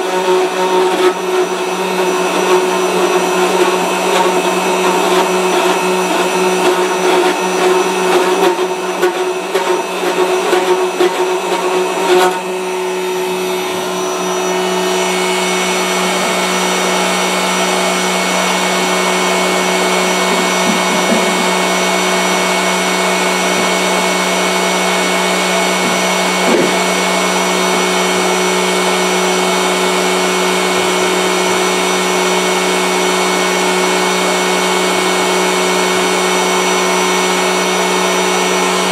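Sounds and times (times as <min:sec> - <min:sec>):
router motor whining: 0:00.0 - 0:38.9.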